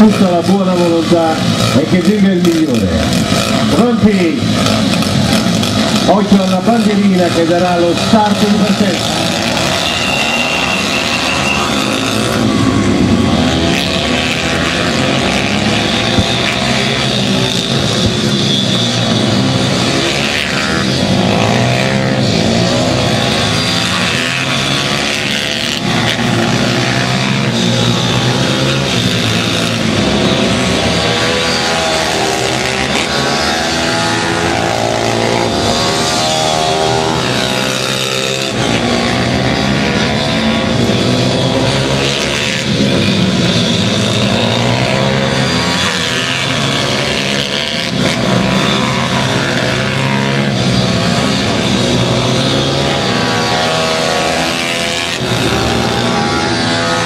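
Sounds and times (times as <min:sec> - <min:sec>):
pit bike engines racing: 0:00.0 - 0:57.0.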